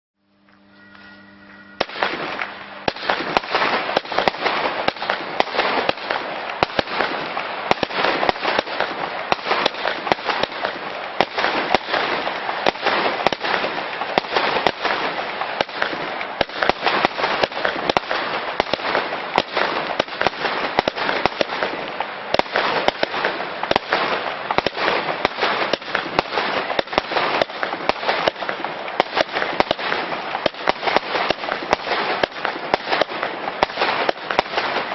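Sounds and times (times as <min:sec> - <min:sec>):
firework battery shots and crackling: 0:00.6 - 0:34.9.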